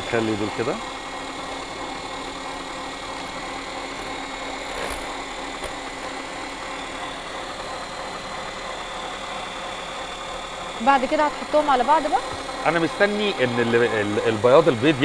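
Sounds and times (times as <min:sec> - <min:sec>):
electric hand mixer whirring: 0:00.0 - 0:15.0
stand mixer whipping: 0:00.0 - 0:15.0.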